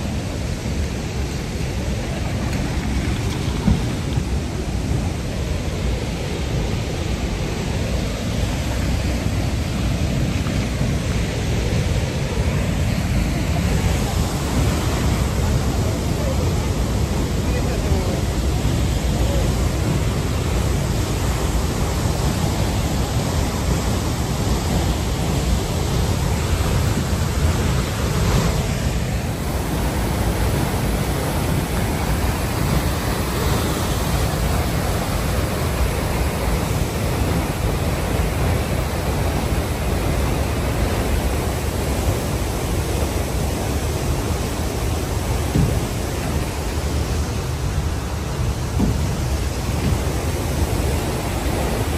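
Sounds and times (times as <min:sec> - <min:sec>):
waterfall roaring: 0:00.0 - 0:51.9.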